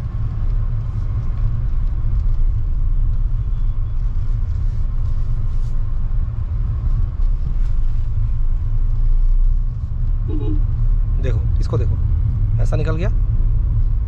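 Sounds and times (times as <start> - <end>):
car engine and tyres from inside: 0.0 - 14.0.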